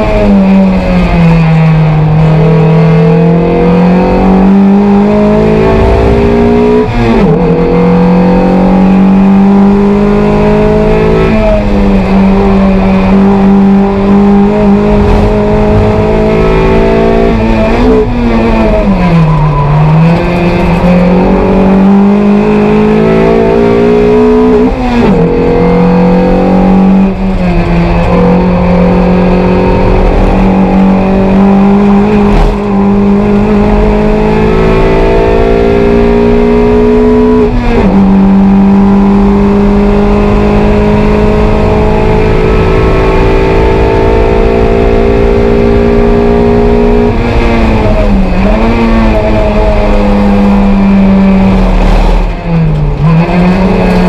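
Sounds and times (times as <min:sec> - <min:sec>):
race car engine pulling hard: 0:00.0 - 0:54.0.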